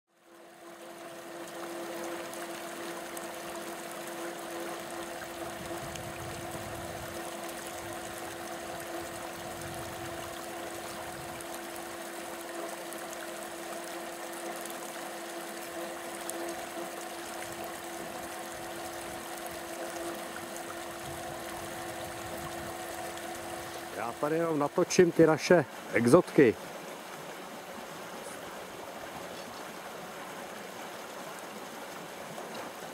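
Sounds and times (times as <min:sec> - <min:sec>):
stream flowing and trickling: 0:00.1 - 0:32.9
constant low hum: 0:00.2 - 0:32.9.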